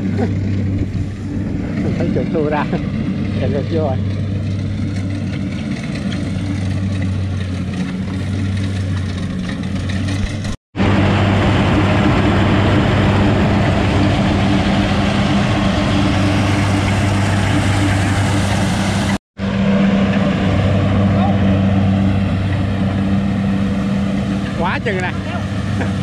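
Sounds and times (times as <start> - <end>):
harvester engine droning: 0.0 - 26.0.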